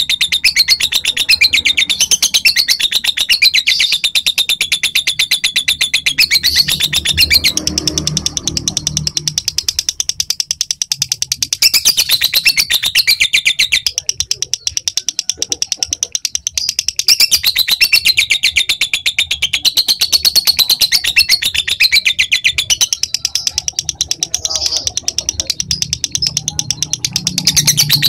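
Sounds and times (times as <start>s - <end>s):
lovebird rapid high chirps: 0.0s - 28.0s.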